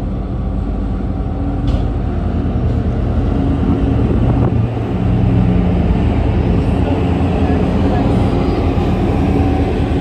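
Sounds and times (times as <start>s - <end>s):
diesel locomotive engine rumbling: 0.0s - 10.0s.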